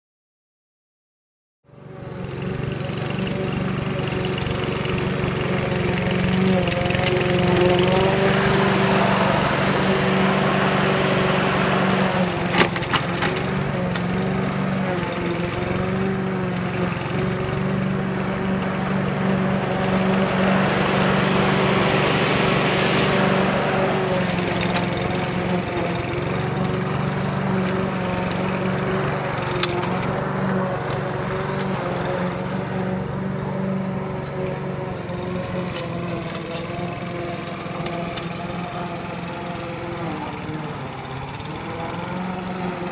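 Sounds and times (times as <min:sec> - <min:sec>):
lawn mower running: 0:01.7 - 0:42.9.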